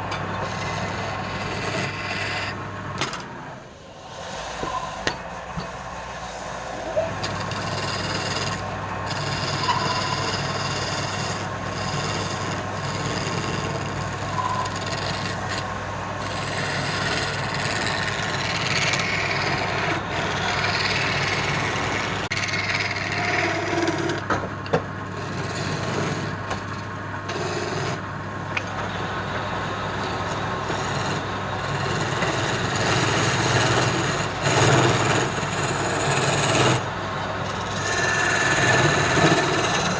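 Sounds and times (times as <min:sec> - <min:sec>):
lathe motor hum: 0:00.0 - 0:39.9
tool scraping spinning wood: 0:00.0 - 0:39.9.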